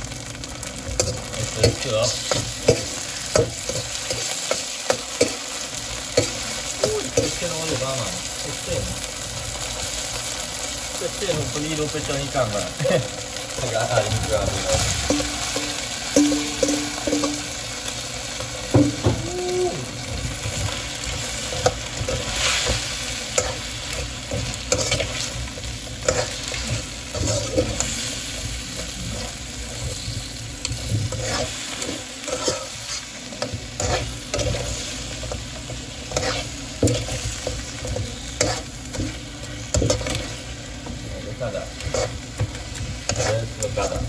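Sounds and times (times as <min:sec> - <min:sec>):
utensil scraping and clattering wok: 0:00.0 - 0:19.2, 0:19.8 - 0:44.0
crabs sizzling in hot oil: 0:00.0 - 0:44.0.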